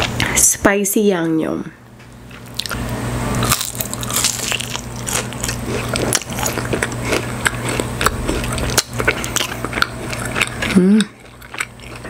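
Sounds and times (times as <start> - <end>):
crunchy chewing of fried chicken: 2.1 - 12.0.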